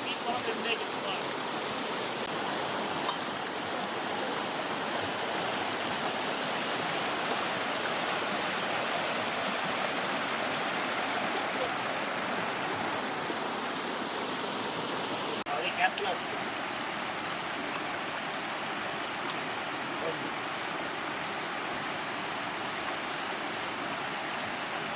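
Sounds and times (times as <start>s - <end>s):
stream running by small waterfall: 0.0s - 24.9s.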